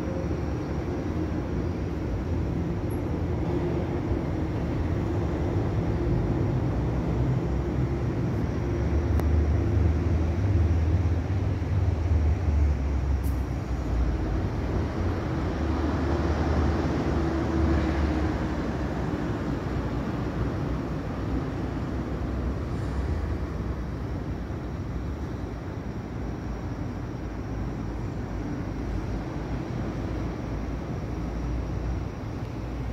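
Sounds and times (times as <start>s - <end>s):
distant city traffic rumble: 0.0s - 32.9s.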